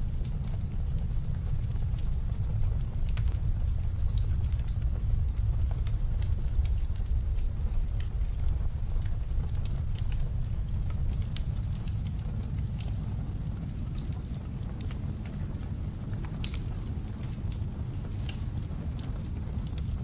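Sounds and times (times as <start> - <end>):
fireplace crackling and popping: 0.0 - 20.0
low rumble of wind: 0.0 - 20.0.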